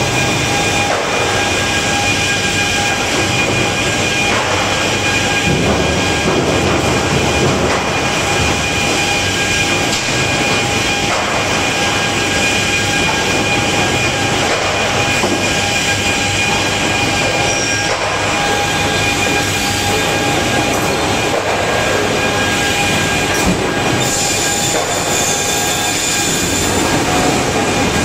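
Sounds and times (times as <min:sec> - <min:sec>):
high machine whine: 0:00.0 - 0:28.0
machinery rattling: 0:00.0 - 0:28.0.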